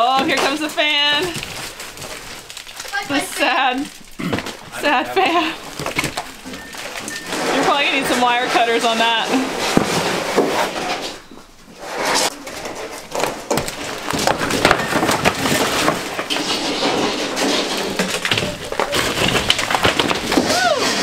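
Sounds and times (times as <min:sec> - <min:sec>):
ceiling panel cracking and tearing: 0:00.0 - 0:11.2, 0:11.9 - 0:21.0
debris clattering and crashing: 0:00.0 - 0:21.0.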